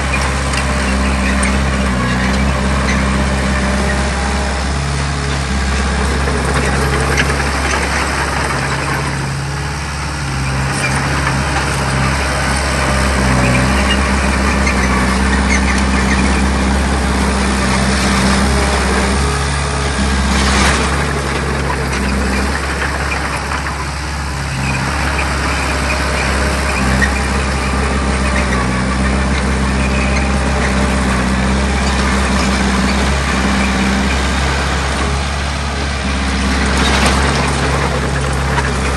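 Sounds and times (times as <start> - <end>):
bulldozer diesel engine: 0.0 - 38.9
clattering and scraping: 4.8 - 9.5, 10.2 - 38.9.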